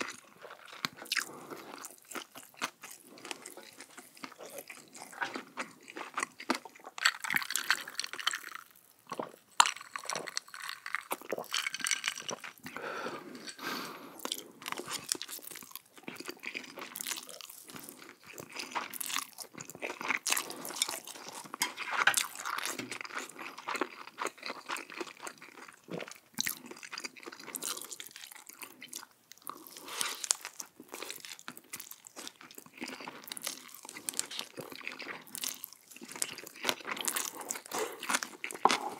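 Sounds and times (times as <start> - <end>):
crunchy chewing: 0.0 - 12.8, 13.4 - 38.9.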